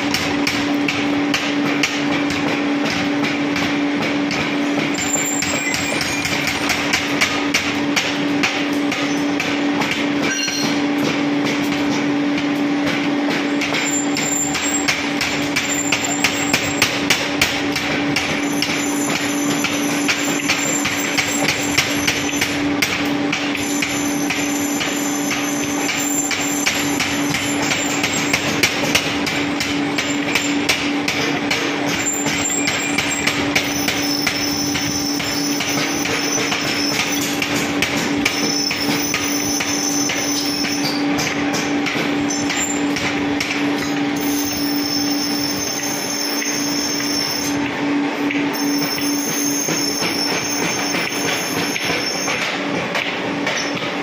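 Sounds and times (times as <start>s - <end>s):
machine hum: 0.0s - 54.0s
power hammer blows on steel: 0.0s - 54.0s.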